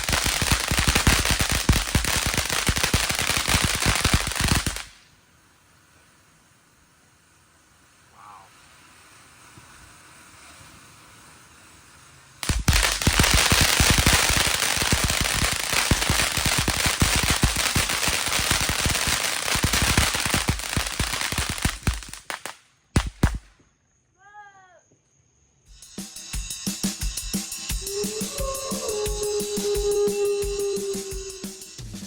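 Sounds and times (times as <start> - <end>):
fountain firework crackling: 0.0 - 23.6, 27.0 - 31.8.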